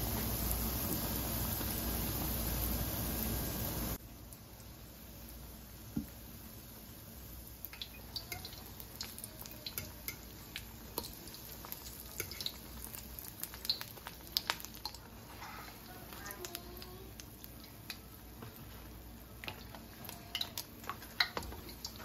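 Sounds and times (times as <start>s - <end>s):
oil sizzling with crackles: 0.0s - 22.0s.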